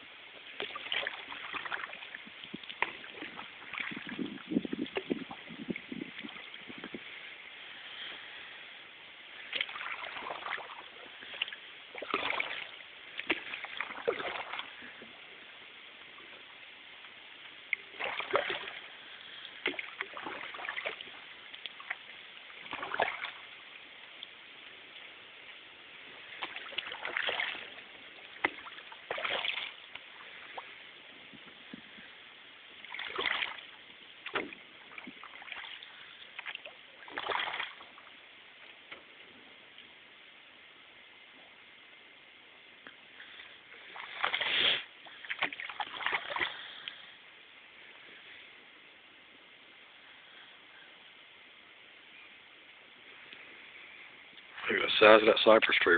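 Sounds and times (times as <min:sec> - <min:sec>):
paddle swish and splash: 0:00.0 - 0:39.2, 0:42.8 - 0:48.5.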